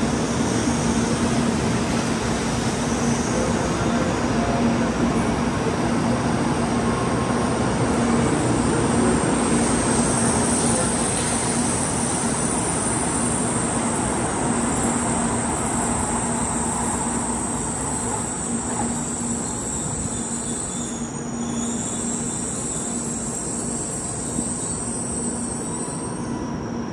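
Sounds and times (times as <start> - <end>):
train rolling to a stop: 0.0 - 26.9.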